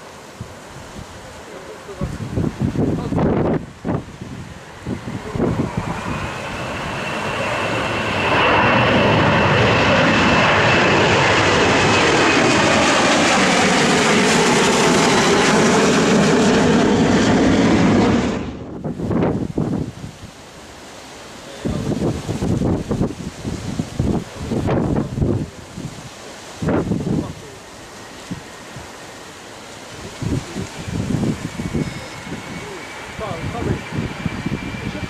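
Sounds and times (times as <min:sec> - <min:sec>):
jet engines whining overhead: 0:00.0 - 0:35.0.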